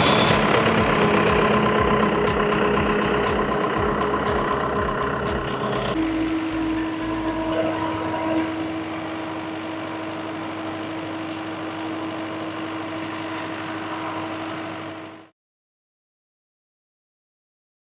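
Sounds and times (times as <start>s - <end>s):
diesel generator running: 0.0s - 15.3s
faint high whine: 0.0s - 15.3s.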